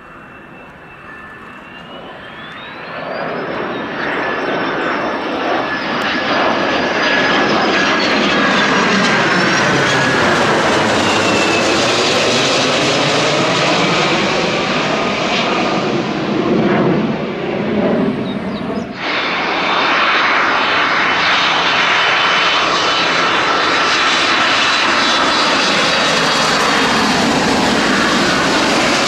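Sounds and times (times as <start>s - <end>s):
jet aircraft engines passing: 0.0s - 29.0s.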